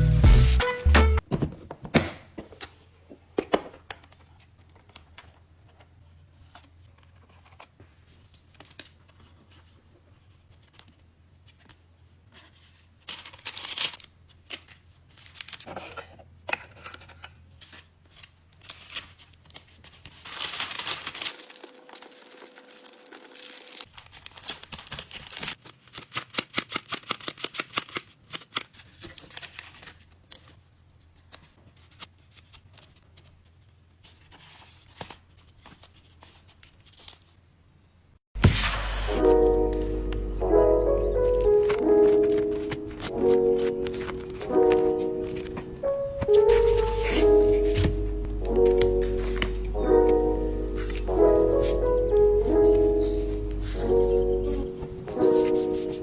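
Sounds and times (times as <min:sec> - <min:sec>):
plastic and paper crinkling: 0:03.6 - 0:37.4, 0:41.1 - 0:56.0.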